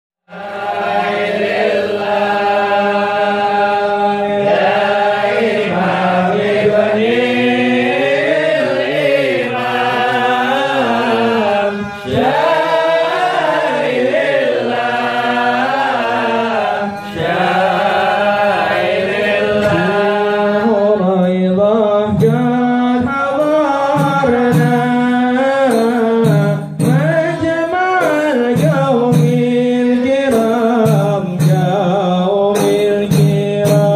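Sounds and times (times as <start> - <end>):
men singing together: 0.3 - 33.9
sharp drum strikes: 4.5 - 20.4, 22.0 - 33.9.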